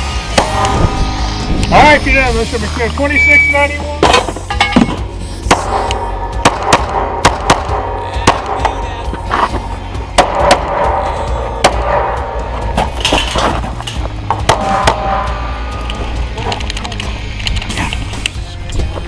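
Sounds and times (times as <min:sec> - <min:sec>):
background music with bass line: 0:00.0 - 0:19.0.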